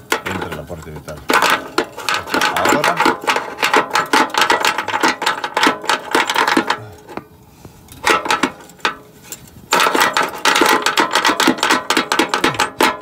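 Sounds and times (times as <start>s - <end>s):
rapid metallic clicking and rattling: 0.0s - 7.3s, 7.9s - 13.0s.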